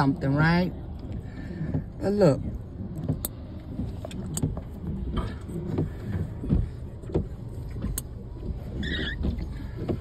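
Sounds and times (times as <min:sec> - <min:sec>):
road and engine rumble: 0:00.0 - 0:10.0
windshield wiper squealing: 0:01.0 - 0:10.0.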